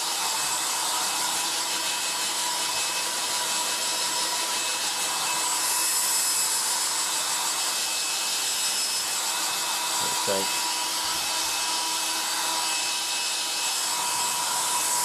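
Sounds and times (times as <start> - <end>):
hairdryer blowing air: 0.0 - 15.0.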